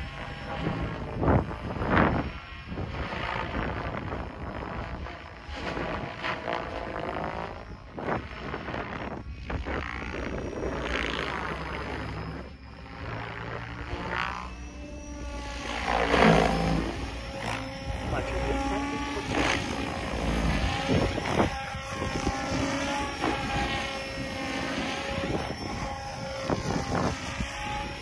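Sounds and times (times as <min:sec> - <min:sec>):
helicopter rotor buzzing whoosh: 0:00.0 - 0:28.0.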